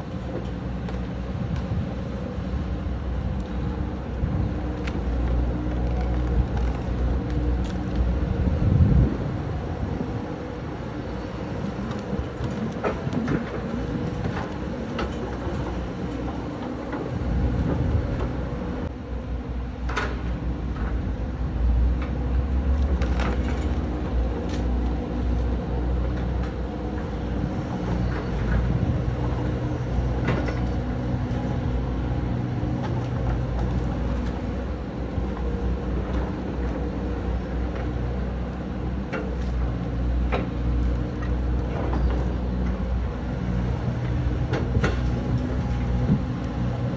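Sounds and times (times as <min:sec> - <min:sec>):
excavator diesel engine rumbling: 0:00.0 - 0:46.9.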